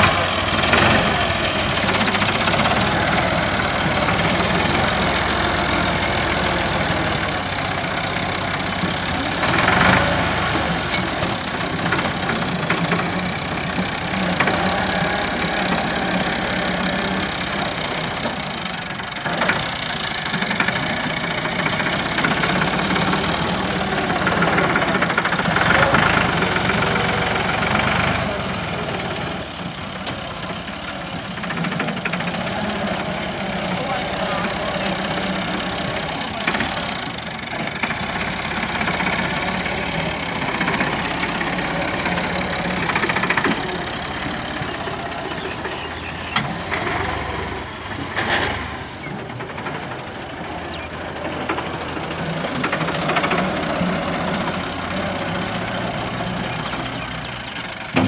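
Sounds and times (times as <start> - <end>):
loader digging soil: 0.0 - 58.0
tractor diesel engine under load: 0.0 - 58.0.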